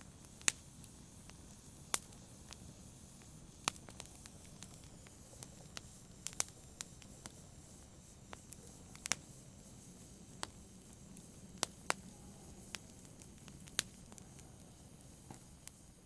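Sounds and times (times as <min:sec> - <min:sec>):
sharp pops from fire: 0:00.0 - 0:15.9
low steady hiss: 0:00.0 - 0:16.0
wood fire crackling: 0:00.0 - 0:16.0.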